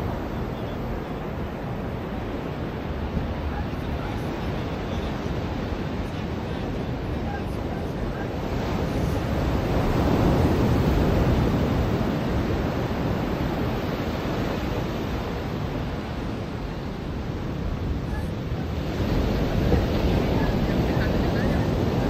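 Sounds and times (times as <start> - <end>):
ocean surf washing on beach: 0.0 - 22.0.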